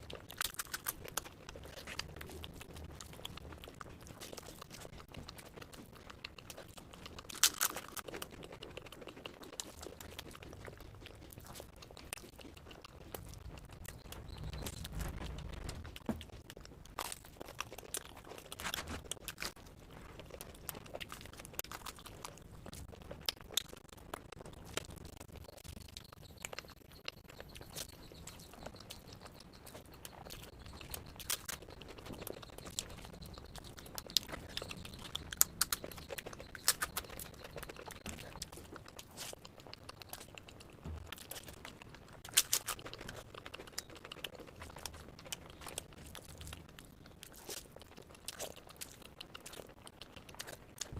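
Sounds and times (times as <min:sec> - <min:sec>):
chewing and biting food: 0:00.0 - 0:50.9.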